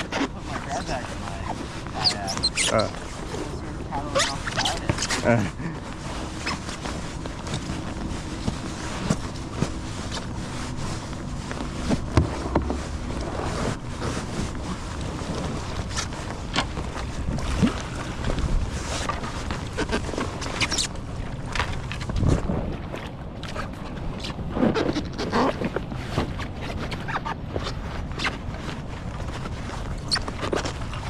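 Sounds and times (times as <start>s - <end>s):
moving water: 0.0s - 31.0s
paddle strokes splashing water: 0.0s - 31.0s
wind on microphone: 0.0s - 31.0s.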